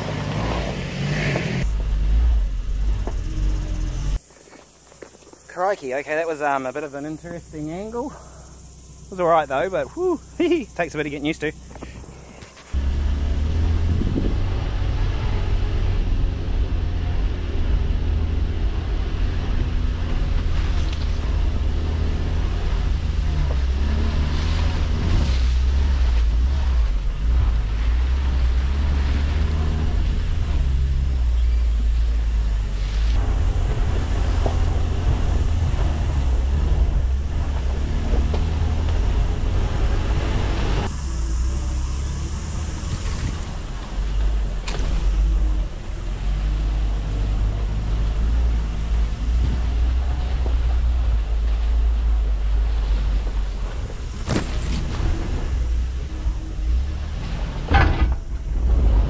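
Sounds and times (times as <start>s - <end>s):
tyres and body over ruts: 0.0s - 59.0s
van engine rumbling: 0.0s - 59.0s.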